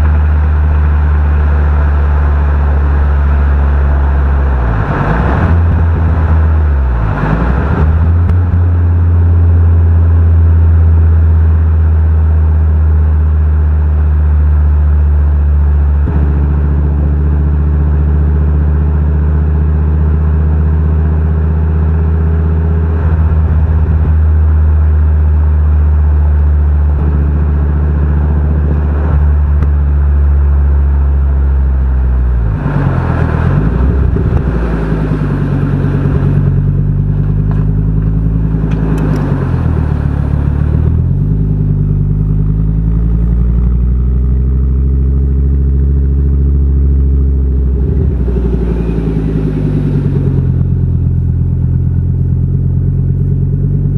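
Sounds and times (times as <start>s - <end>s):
car engine running at low revs: 0.0s - 53.9s.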